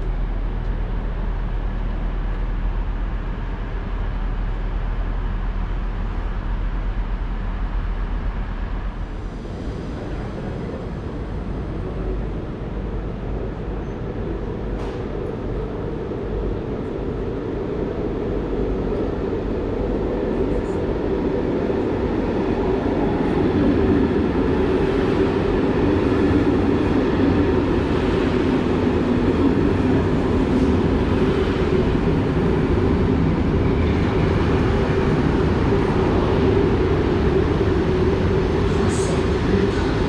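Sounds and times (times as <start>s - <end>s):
train rolling noise: 0.0s - 40.0s.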